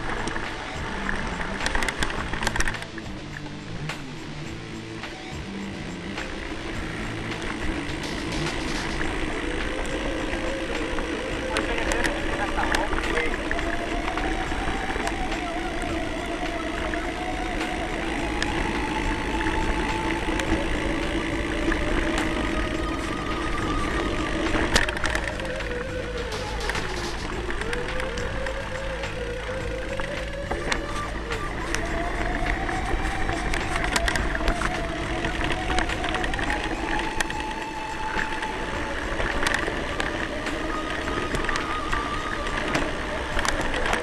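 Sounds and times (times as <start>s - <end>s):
bike clicks and rattles: 0.0s - 44.0s
bike tyres rolling on dirt: 0.0s - 44.0s
low rumble: 0.0s - 44.0s
thin steady whine: 0.0s - 44.0s.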